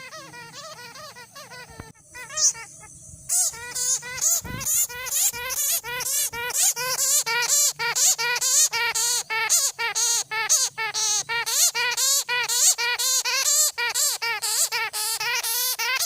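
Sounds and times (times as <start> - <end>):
animal squealing: 0.0 - 2.7, 3.3 - 16.0.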